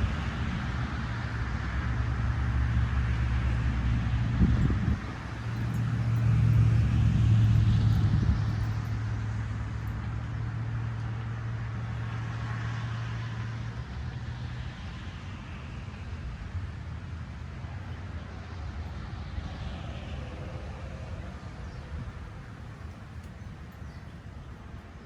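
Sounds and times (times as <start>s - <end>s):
passing vehicle engine hum: 0.0s - 25.0s.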